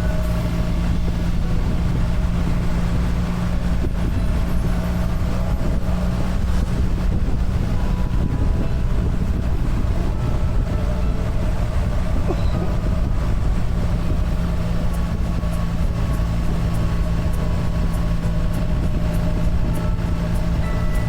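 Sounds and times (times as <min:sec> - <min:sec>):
motorcycle engine running: 0:00.0 - 0:21.0
road noise: 0:00.0 - 0:21.0.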